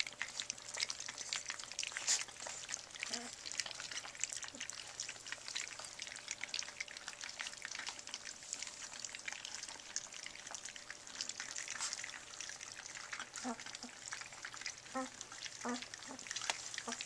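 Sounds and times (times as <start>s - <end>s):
puppies lapping and slurping food: 0.0s - 17.0s.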